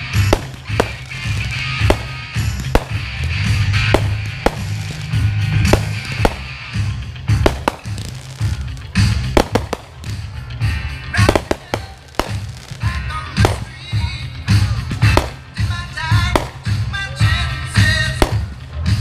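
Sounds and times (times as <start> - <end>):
firework shells bursting: 0.0 - 10.3, 11.2 - 13.8, 14.9 - 17.0, 17.8 - 18.6
loud music: 0.0 - 19.0.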